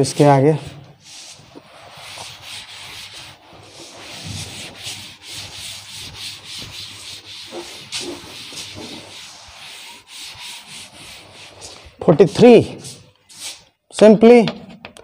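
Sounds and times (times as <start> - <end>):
cloth wiping blackboard: 0.0 - 13.7.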